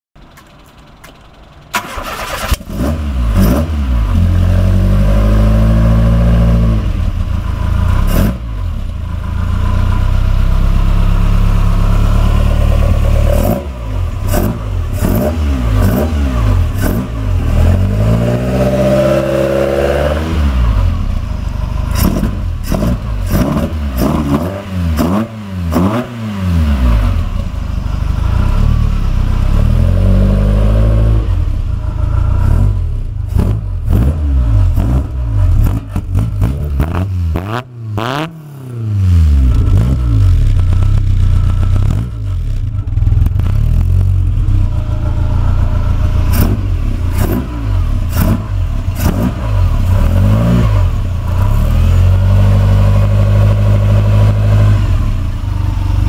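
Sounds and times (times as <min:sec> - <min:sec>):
car engine starting and idling: 0:00.2 - 0:56.0
car engine revving: 0:01.7 - 0:56.0.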